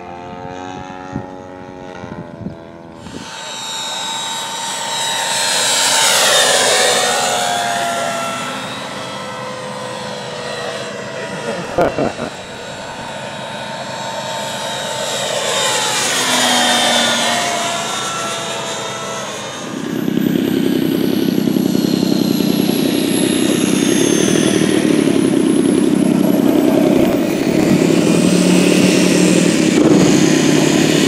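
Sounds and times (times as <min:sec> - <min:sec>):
low buzzing engine: 0:00.0 - 0:31.0
model airplane engine whine: 0:00.0 - 0:31.0.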